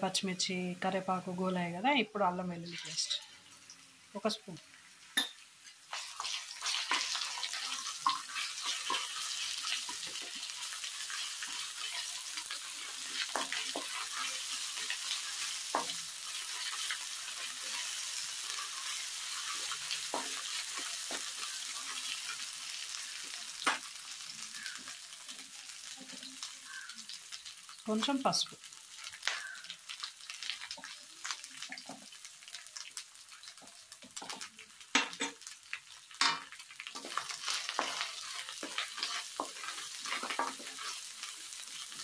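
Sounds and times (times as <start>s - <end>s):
onions sizzling in hot oil: 0.0s - 42.0s.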